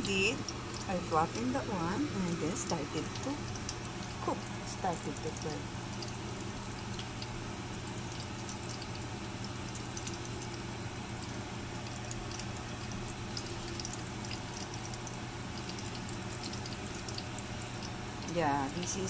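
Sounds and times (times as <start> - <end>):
fritters sizzling in oil: 0.0 - 19.0.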